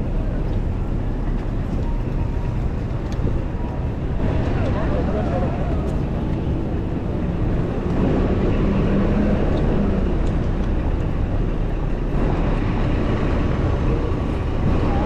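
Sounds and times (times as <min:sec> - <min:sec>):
city street traffic: 0:00.0 - 0:15.0
wind rumbling on microphone: 0:00.0 - 0:15.0.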